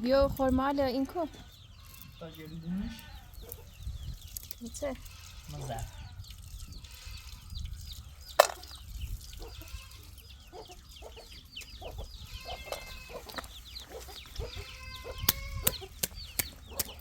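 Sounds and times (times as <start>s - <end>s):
chickens clucking: 1.0s - 5.0s, 6.0s - 17.0s.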